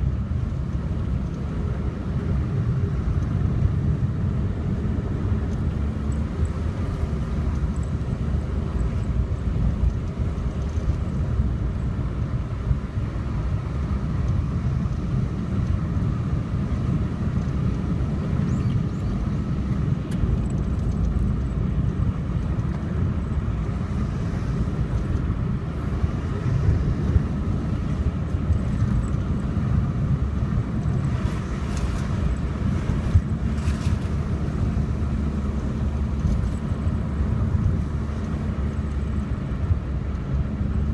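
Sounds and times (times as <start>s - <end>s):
car driving on a road: 0.0s - 40.9s.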